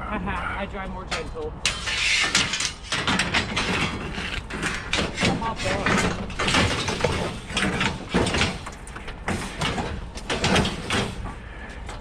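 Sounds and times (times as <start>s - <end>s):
knocks scrapes and clatters: 1.0s - 12.0s.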